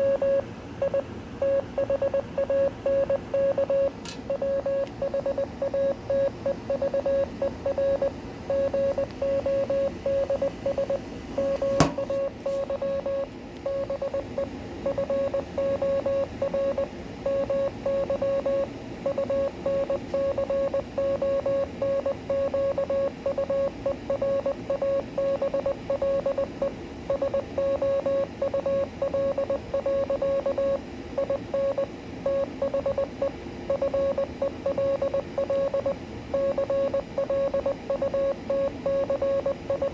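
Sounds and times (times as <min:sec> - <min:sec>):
morse code tone: 0:00.0 - 0:26.5, 0:27.1 - 0:39.9.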